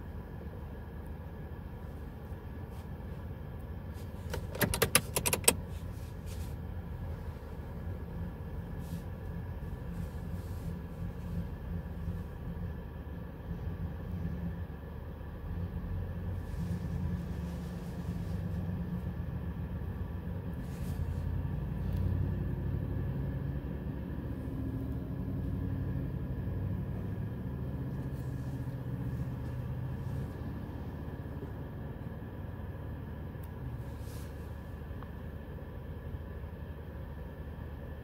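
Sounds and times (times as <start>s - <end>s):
muffled car wash rumble: 0.0s - 38.0s.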